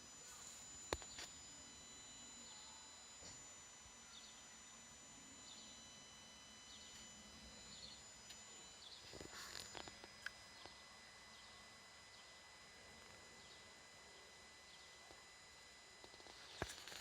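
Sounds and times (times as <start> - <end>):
high-pitched electrical buzz: 0.0 - 17.0.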